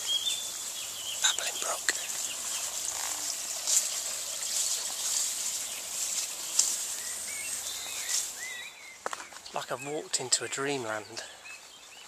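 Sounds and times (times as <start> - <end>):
bird chirping: 0.0 - 12.0
brook babbling: 0.0 - 12.0.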